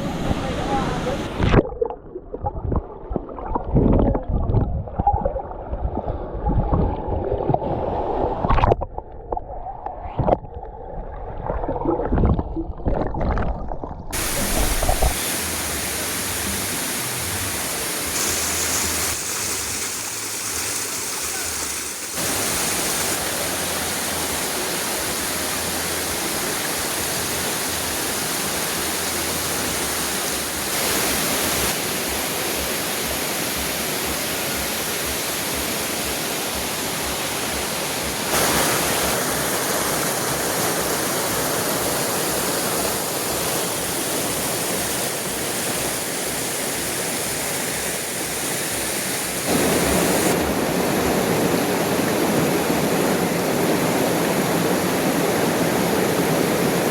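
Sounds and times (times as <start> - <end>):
waterfall pouring and rushing: 0.0 - 10.4, 12.1 - 56.9.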